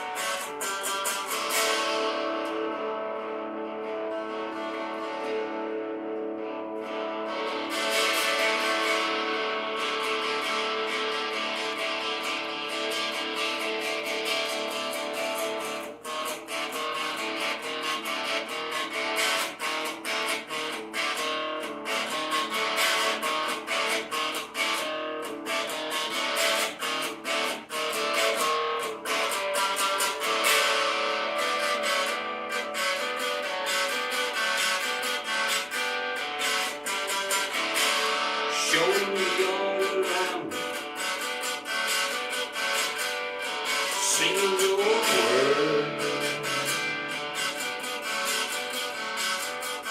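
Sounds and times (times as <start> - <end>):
strummed guitar: 0.0 - 49.9.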